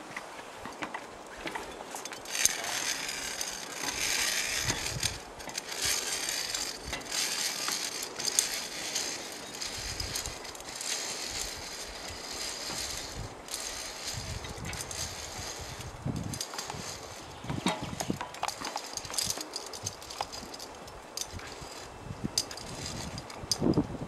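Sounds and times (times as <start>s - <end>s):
carabiners scraping on steel cable: 1.4s - 23.9s
metal clinking: 1.5s - 23.8s.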